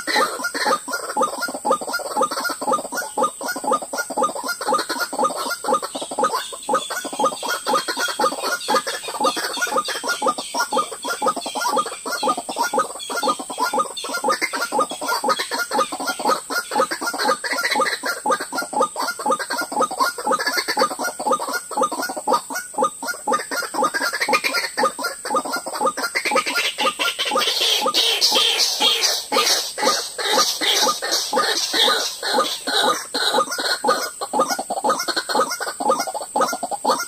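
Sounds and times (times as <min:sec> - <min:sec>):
waterhens calling: 0:00.0 - 0:37.0.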